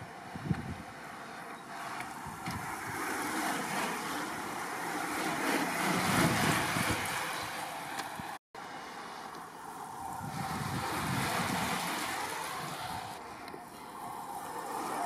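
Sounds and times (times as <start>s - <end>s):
wind on microphone: 0.0s - 8.4s, 9.7s - 15.0s
bicycle tyres hissing on wet road: 0.0s - 15.0s.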